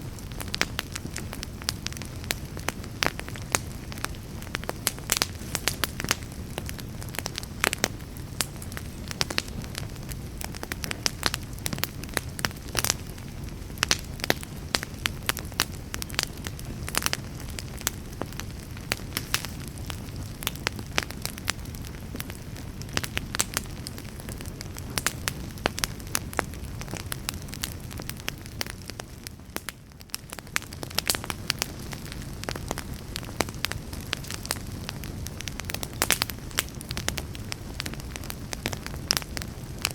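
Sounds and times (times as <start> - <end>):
crackles and pops of burning logs: 0.0 - 39.9
low rumble of flames: 0.0 - 39.9.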